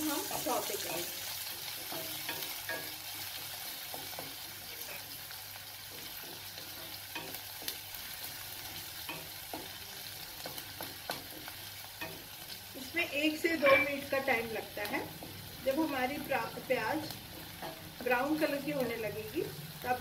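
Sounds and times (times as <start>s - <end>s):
vegetables sizzling in hot oil: 0.0s - 20.0s
spatula scraping and tapping pan: 0.3s - 18.2s.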